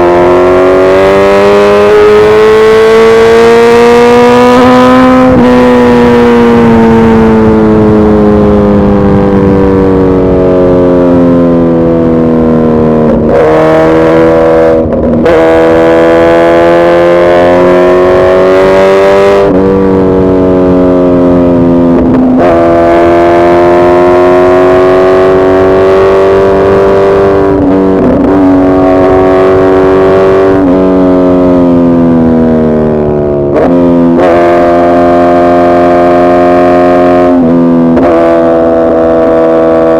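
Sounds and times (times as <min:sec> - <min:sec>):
motorcycle engine revving high: 0:00.0 - 0:39.9.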